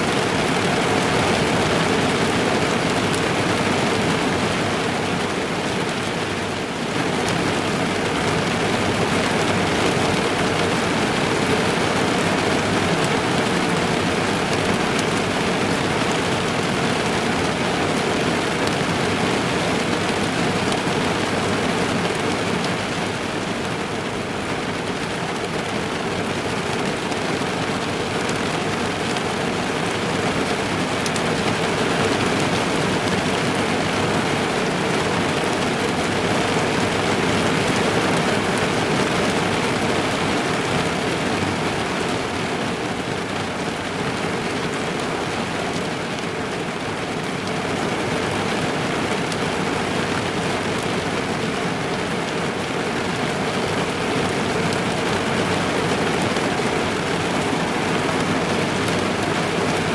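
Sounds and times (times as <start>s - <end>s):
heavy rain drumming on car roof: 0.0s - 59.9s.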